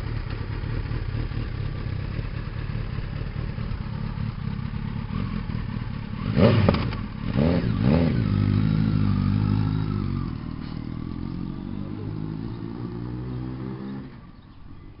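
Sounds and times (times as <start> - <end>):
motorcycle engine revving: 0.0 - 14.5
motorcycle riding off: 0.0 - 14.9.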